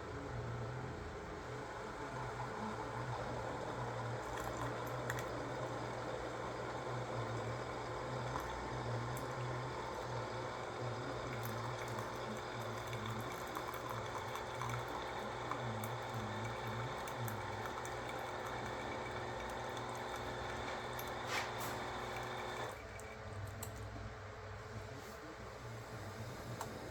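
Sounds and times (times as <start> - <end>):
coffee maker pump hum: 0.0 - 26.9
hot water running into cup: 2.1 - 23.7.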